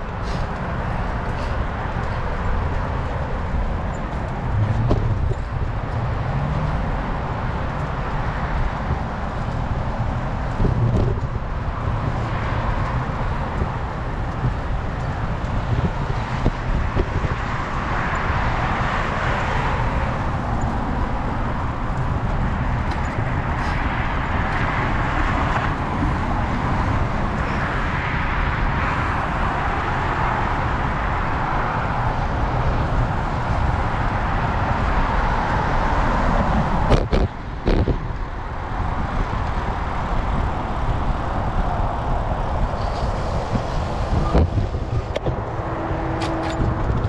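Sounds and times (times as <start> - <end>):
passing vehicles: 0.0 - 47.0
wind rumble on microphone: 0.0 - 47.0.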